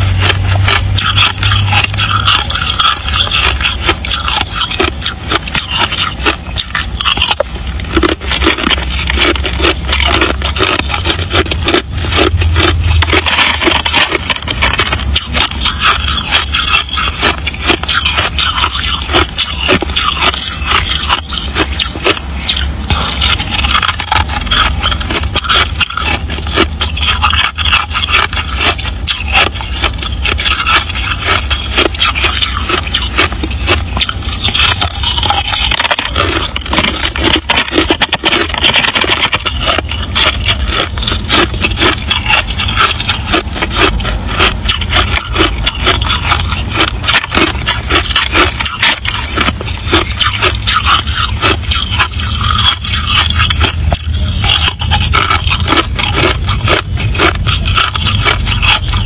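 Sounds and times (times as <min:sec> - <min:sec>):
ice crunched while chewing: 0:00.0 - 0:59.0.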